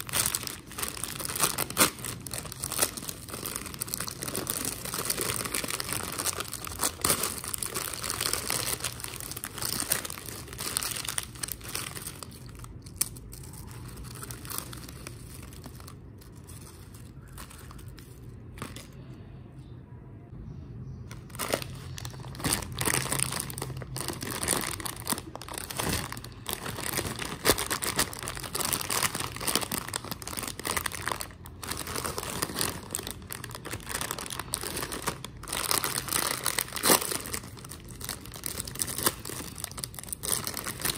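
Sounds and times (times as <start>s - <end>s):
chip bags crinkling: 0.0s - 19.0s, 21.1s - 40.9s.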